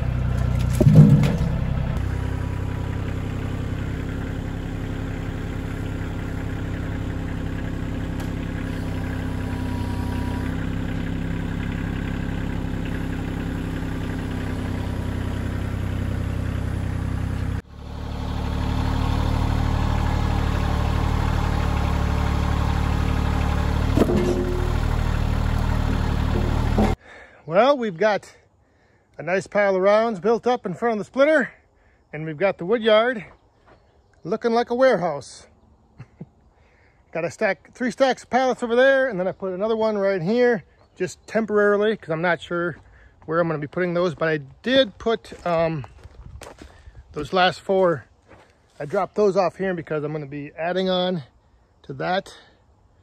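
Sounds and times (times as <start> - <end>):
tractor diesel engine running: 0.0 - 27.7, 29.2 - 53.0.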